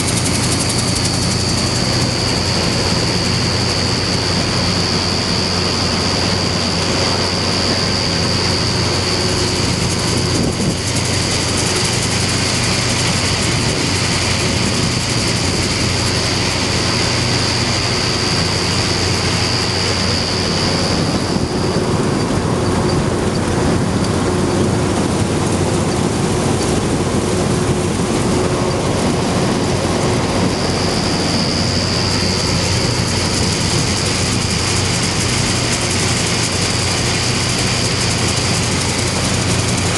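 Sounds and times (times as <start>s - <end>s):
combine threshing mechanical din: 0.0s - 39.9s
high steady whine: 0.0s - 39.9s
tractor diesel engine: 0.0s - 39.9s.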